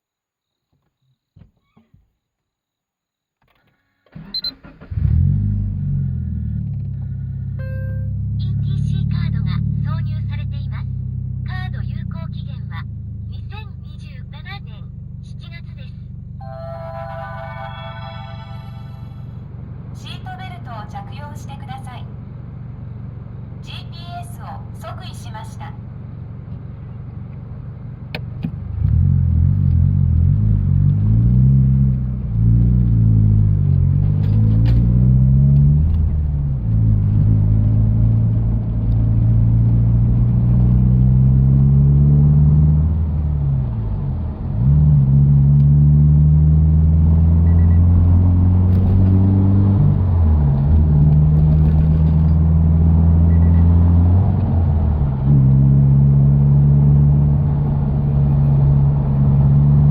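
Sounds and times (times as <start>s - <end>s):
car exhaust drone while driving: 4.9s - 16.6s, 19.0s - 59.9s.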